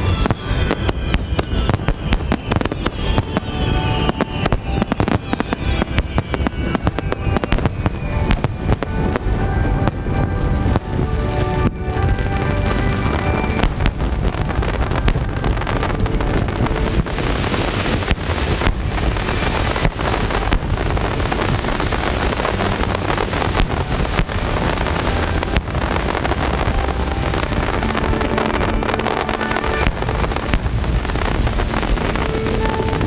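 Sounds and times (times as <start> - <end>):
fireworks bangs: 0.0 - 33.0
fireworks crackling rumble: 0.0 - 33.0.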